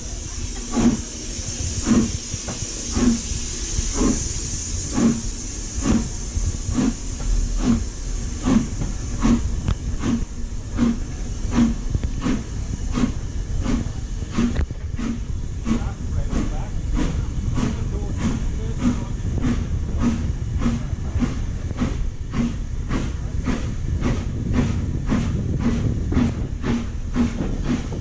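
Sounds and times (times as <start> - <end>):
hiss of steam: 0.0 - 28.0
steam locomotive exhaust chuffing: 0.0 - 28.0.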